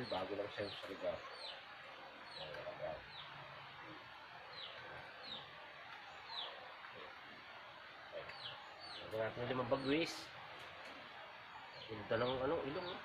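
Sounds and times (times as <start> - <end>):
small bird chirping: 0.0 - 13.0
steady background hiss: 0.0 - 13.0.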